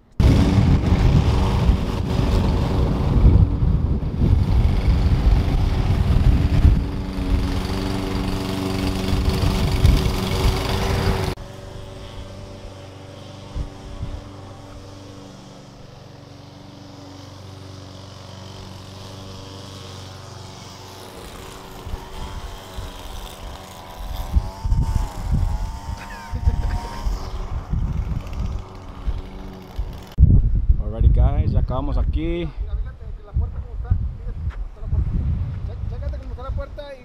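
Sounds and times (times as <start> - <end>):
lawn mower running: 0.0 - 30.2
steady engine hum: 0.0 - 30.3.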